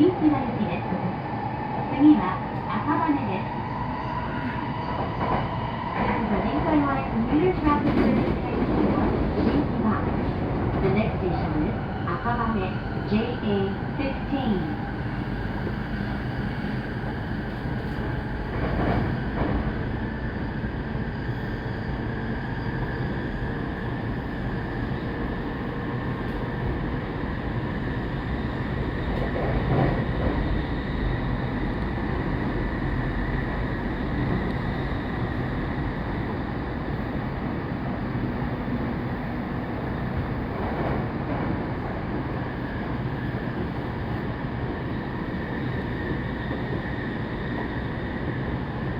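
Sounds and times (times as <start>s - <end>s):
train wheels rumbling on rail: 0.2s - 48.9s.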